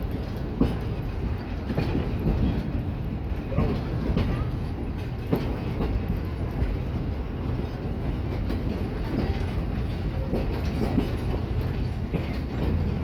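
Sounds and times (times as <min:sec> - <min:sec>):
train rumbling: 0:00.0 - 0:13.0
wheels clicking over rail joints: 0:00.0 - 0:13.0.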